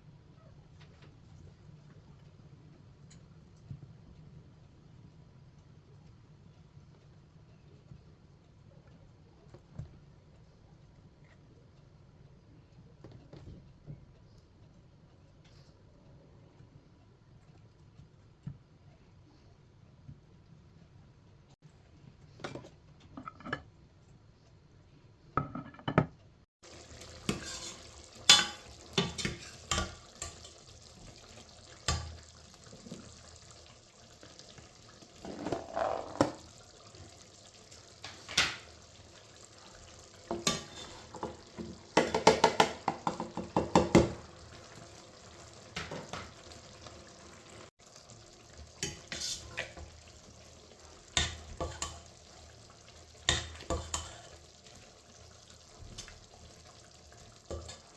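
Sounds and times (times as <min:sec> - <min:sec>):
faint sizzle: 0:00.0 - 0:25.7, 0:26.6 - 0:57.9.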